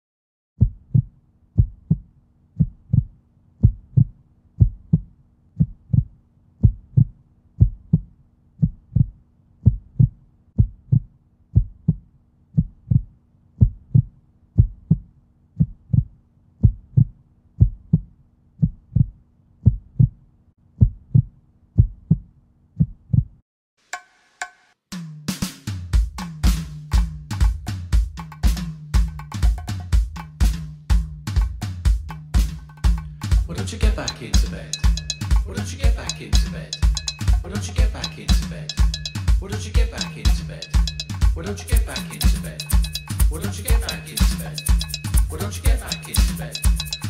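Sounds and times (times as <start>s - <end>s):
heartbeat thumps: 0.6s - 12.0s, 12.6s - 20.2s, 20.8s - 23.4s, 29.0s - 47.0s.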